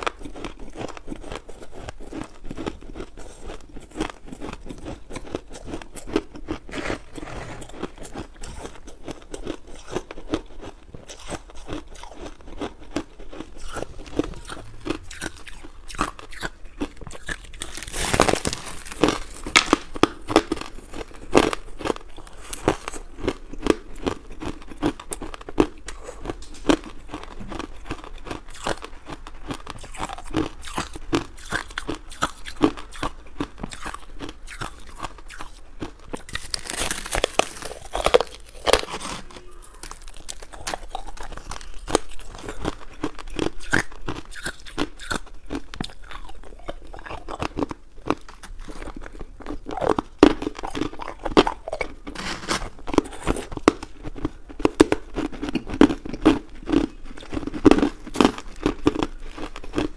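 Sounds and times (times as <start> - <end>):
crushed ice being chewed: 0.0 - 59.9.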